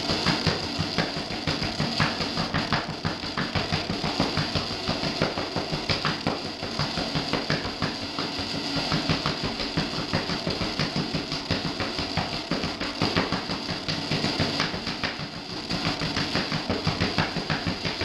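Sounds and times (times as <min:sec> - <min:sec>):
throbbing electronic noise music: 0:00.0 - 0:18.0.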